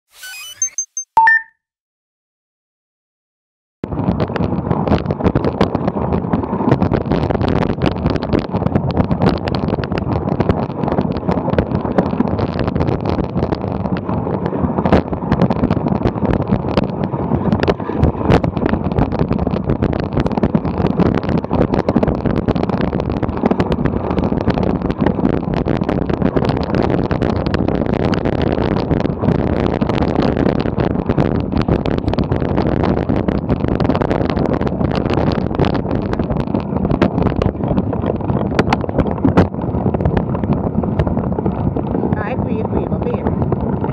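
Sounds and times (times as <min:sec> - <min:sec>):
bike rattling: 0:04.0 - 0:43.9.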